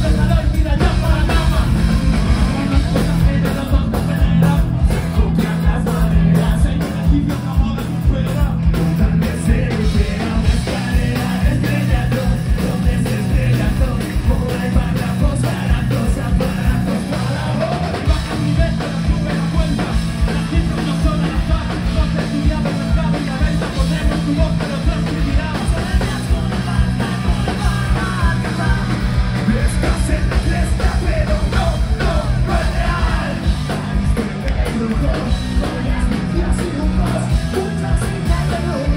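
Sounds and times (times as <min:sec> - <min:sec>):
live band playing: 0:00.0 - 0:38.9
people rapping and shouting: 0:00.0 - 0:38.9.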